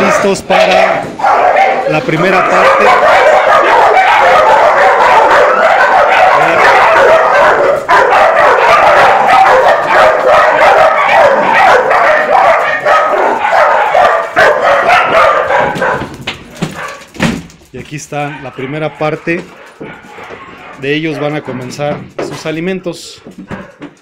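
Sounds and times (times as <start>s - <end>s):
pack of dogs barking: 0.0s - 17.1s, 17.9s - 22.0s, 23.4s - 24.0s.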